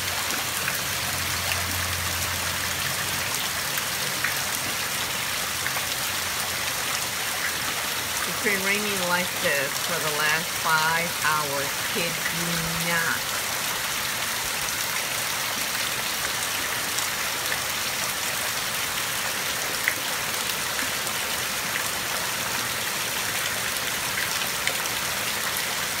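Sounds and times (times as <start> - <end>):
close raindrops striking: 0.0 - 26.0
heavy rain pouring: 0.0 - 26.0.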